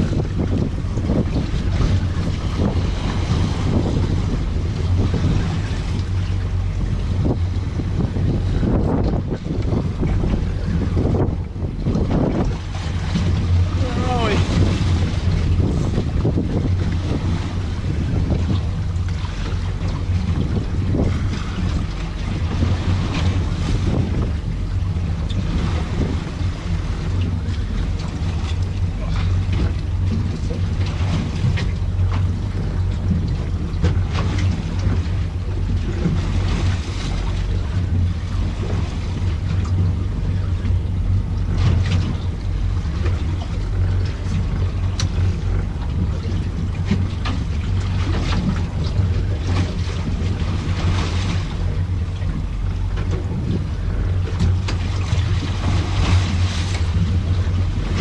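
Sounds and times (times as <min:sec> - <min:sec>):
boat engine humming: 0:00.0 - 0:58.0
water washing against hull: 0:00.0 - 0:58.0
wind buffeting microphone: 0:00.0 - 0:58.0.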